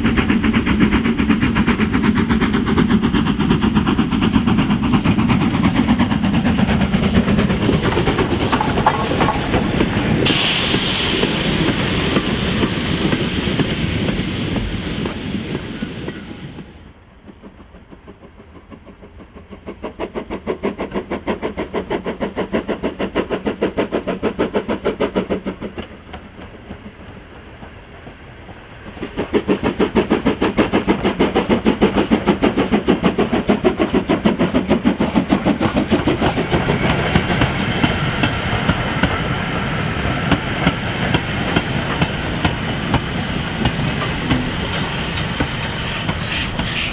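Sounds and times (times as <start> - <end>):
steam hiss: 0.0 - 46.9
steam locomotive exhaust beats: 0.0 - 46.9.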